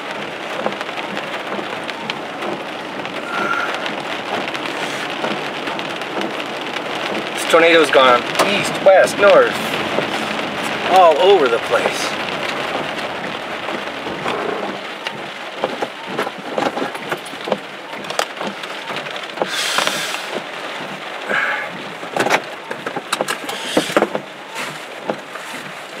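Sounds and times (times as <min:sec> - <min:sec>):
rain on car roof: 0:00.0 - 0:26.0
windshield wiper sweeping: 0:00.0 - 0:26.0.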